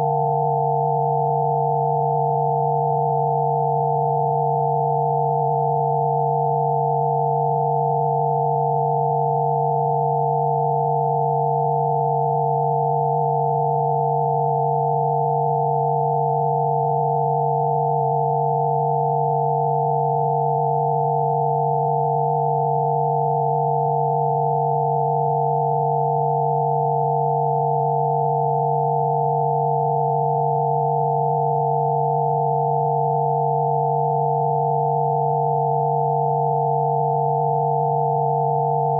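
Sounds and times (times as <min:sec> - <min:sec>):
steady pure sine tones: 0:00.0 - 0:38.9.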